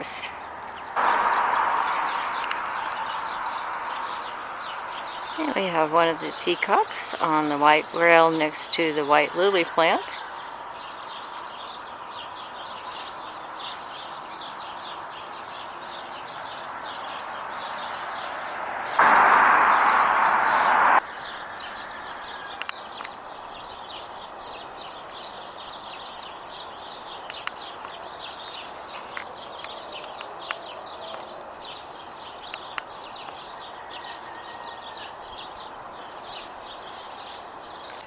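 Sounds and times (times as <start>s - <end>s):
songbirds twittering: 0.0s - 38.0s.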